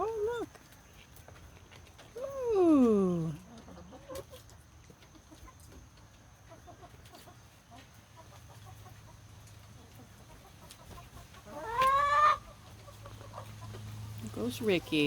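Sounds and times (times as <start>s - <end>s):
hens clucking softly: 2.0s - 15.0s.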